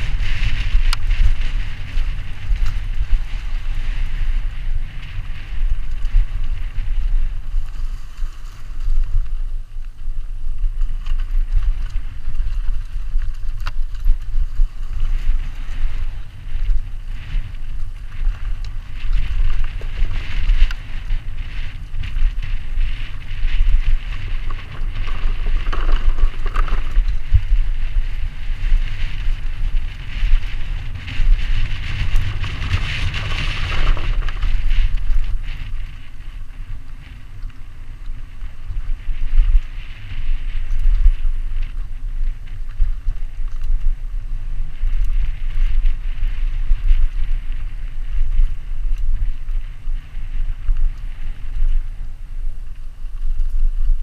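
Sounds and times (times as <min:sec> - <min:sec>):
bike rattle and tyre noise: 0:00.0 - 0:54.0
wind buffeting microphone: 0:00.0 - 0:54.0.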